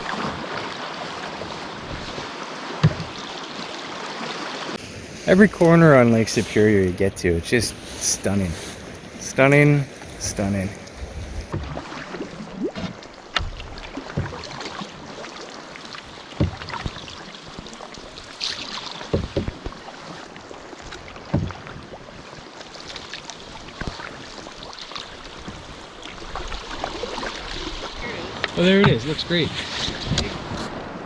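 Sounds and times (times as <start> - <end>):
water splashing against hull: 0.0 - 31.0.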